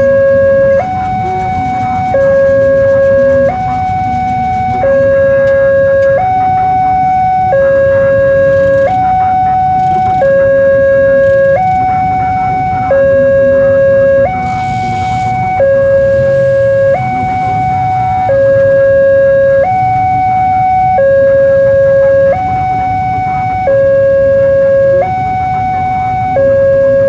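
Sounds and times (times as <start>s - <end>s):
motorcycle engines idling: 0.0s - 27.0s
two-tone crossing alarm: 0.0s - 27.0s.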